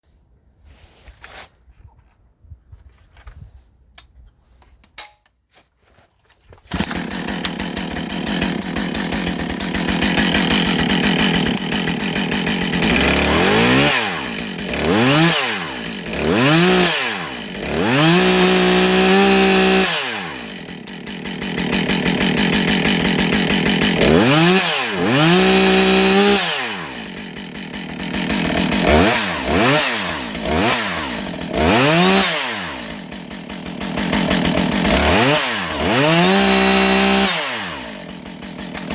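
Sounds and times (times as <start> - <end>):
chainsaw starting and revving: 6.6 - 38.9.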